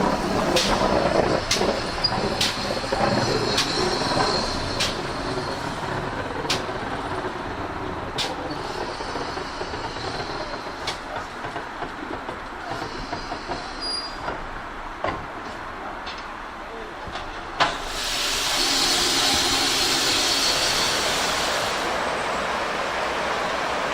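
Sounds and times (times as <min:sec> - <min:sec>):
train wheels clicking over rail joints: 0:00.0 - 0:21.9
train rumble: 0:00.0 - 0:23.9.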